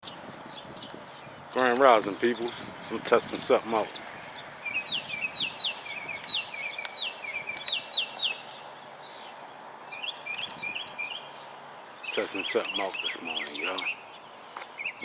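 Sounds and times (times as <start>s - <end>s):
outdoor background hiss: 0.0s - 15.0s
songbird chirping: 0.0s - 15.0s.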